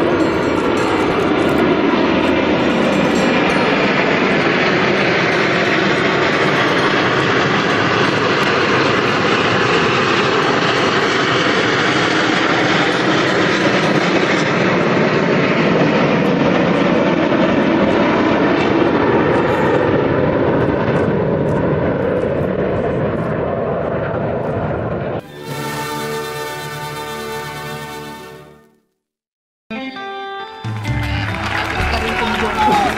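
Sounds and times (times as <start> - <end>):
jet engines roaring past: 0.0 - 28.7, 30.7 - 32.9.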